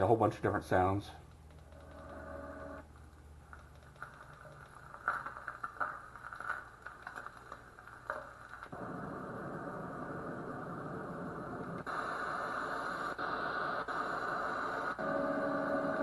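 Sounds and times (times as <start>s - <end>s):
white noise from small speaker: 0.0s - 16.0s.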